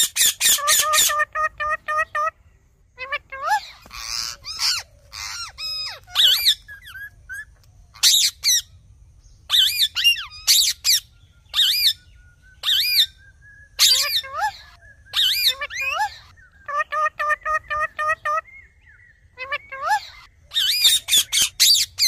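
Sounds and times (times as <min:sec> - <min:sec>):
parakeets screeching: 0:00.0 - 0:02.3, 0:03.0 - 0:08.9, 0:09.5 - 0:12.0, 0:12.6 - 0:18.5, 0:19.3 - 0:22.0.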